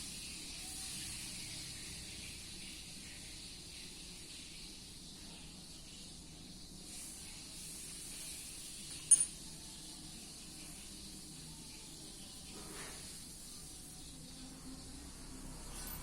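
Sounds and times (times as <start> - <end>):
machine running with high hiss: 0.0 - 16.0.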